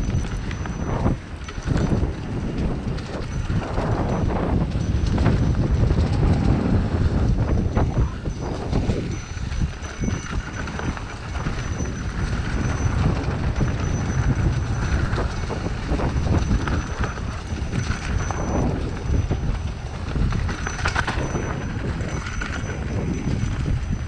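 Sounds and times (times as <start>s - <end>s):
bike frame and chain rattling: 0.0s - 24.0s
wind on microphone: 0.0s - 24.0s
tyres rumbling on dirt: 0.1s - 23.9s.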